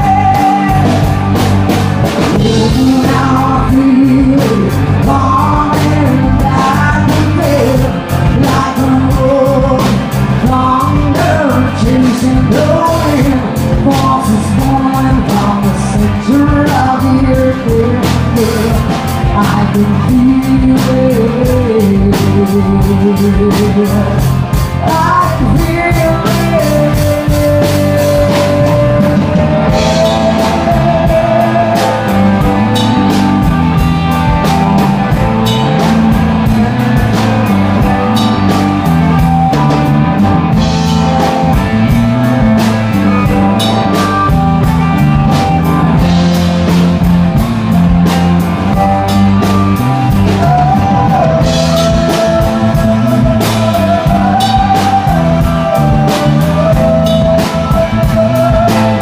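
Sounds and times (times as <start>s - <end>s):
drum kit steady beat: 0.0s - 59.0s
pitch-bending melody line: 0.0s - 59.0s
rock band playing: 0.0s - 59.0s.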